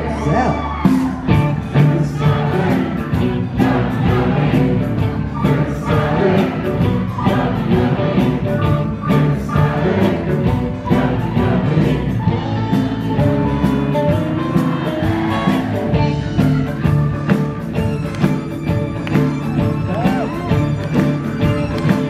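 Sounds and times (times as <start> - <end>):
guitar: 0.0 - 22.0
keyboard: 0.0 - 22.0
drum beat: 0.9 - 22.0.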